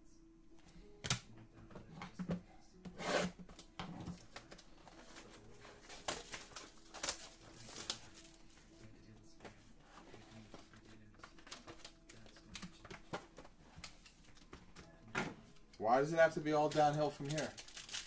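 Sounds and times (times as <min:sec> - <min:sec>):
trading cards rustling: 0:03.0 - 0:18.0.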